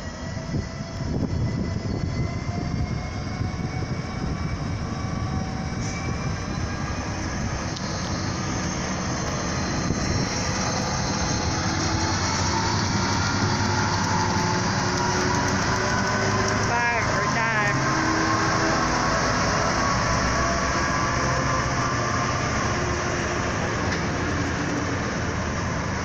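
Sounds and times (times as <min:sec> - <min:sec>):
diesel locomotive passing: 0:00.0 - 0:26.0.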